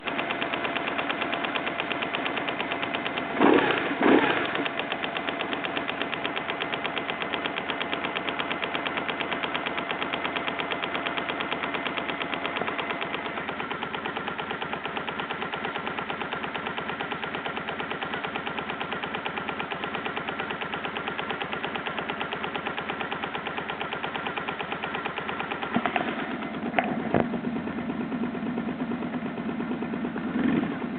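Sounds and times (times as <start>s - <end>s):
engine bursts: 0.0s - 21.0s, 25.4s - 30.9s
fast even engine ticking: 0.0s - 30.9s
motorcycle engine running: 0.0s - 30.9s.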